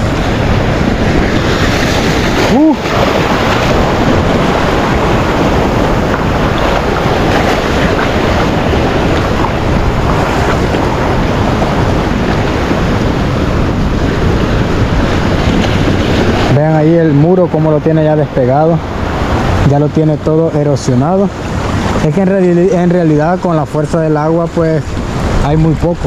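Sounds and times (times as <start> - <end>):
seawater surging in shallows: 0.0 - 26.0
wind buffeting microphone: 0.0 - 26.0.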